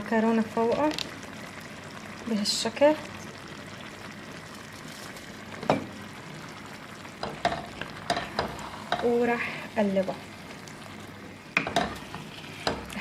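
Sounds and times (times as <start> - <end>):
sauce bubbling and sizzling: 0.0 - 13.0.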